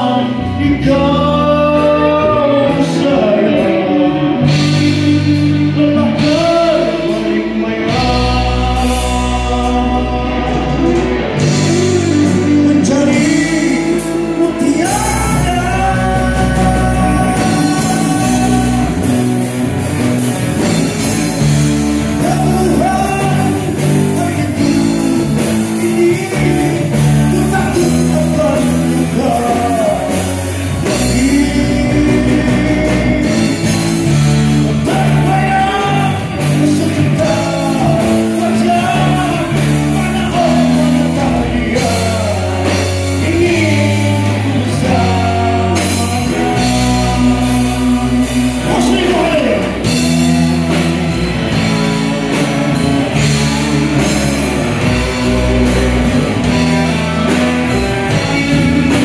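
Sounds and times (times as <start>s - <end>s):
live rock band playing: 0.0s - 59.0s
man singing: 0.0s - 59.0s.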